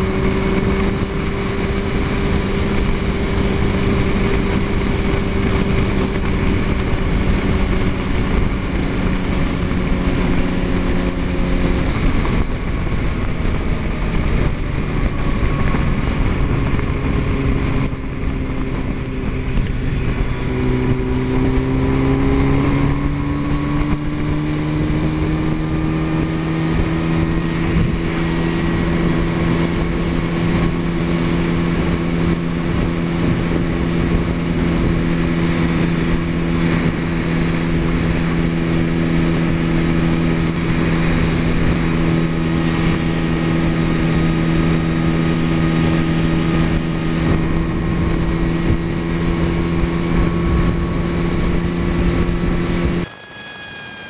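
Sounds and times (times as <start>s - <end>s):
motorcycle engine at speed: 0.0s - 54.0s
wind rush: 0.0s - 54.0s.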